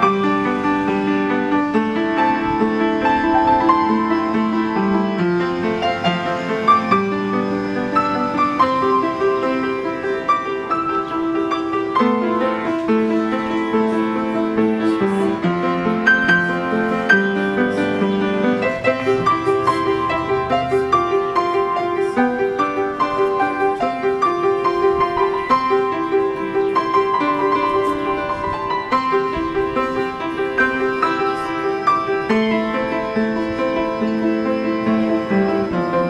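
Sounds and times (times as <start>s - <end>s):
piano background music: 0.0s - 36.0s.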